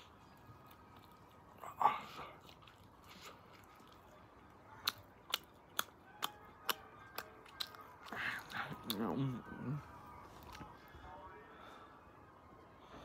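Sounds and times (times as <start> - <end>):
person chewing food: 0.0 - 10.8.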